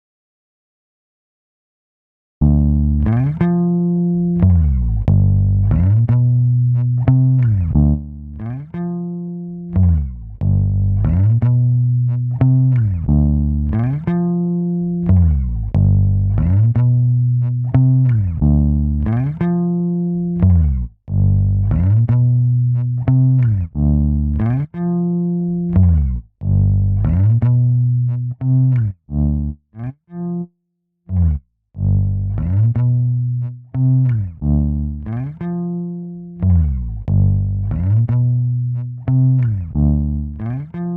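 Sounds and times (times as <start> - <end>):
electric bass guitar riff: 2.4 - 30.5, 31.1 - 40.9.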